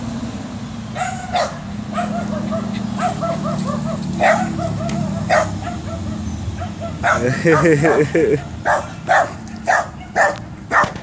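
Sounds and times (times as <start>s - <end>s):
dog barking: 1.0s - 11.0s
small dog yelping: 1.0s - 11.0s.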